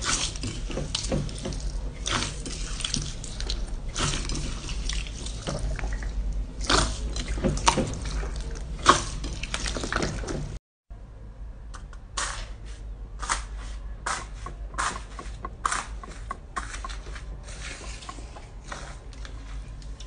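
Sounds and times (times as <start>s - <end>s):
slime squishing: 0.0s - 10.6s, 14.1s - 20.0s.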